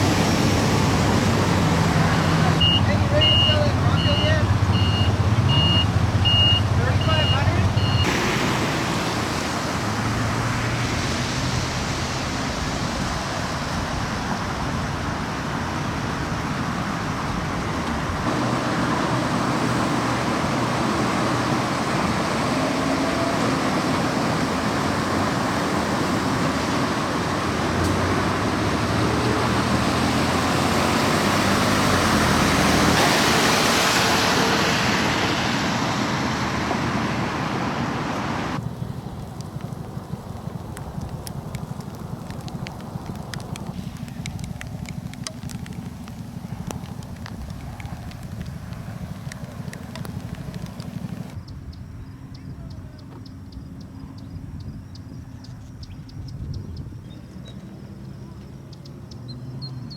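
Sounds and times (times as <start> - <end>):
heavy rain: 0.0 - 51.4
running water: 0.0 - 51.4
low vehicle hum: 0.0 - 59.9.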